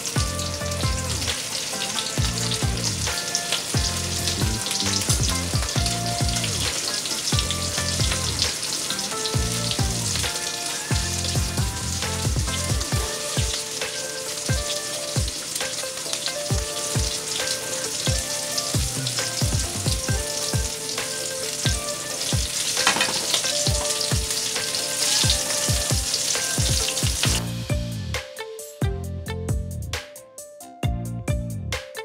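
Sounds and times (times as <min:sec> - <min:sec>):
shrimp sizzling in hot oil: 0:00.0 - 0:27.5
background music with a beat: 0:00.0 - 0:32.0.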